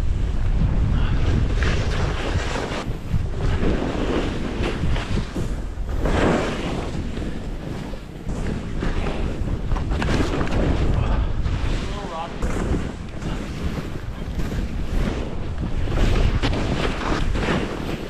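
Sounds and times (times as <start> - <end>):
wind buffeting microphone: 0.0 - 18.0
skis scraping through snow: 0.1 - 18.0.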